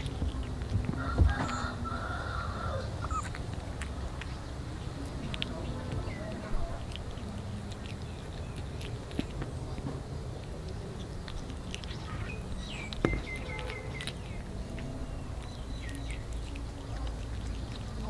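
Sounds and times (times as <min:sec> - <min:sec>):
kitten chewing and crunching: 0:00.0 - 0:18.0.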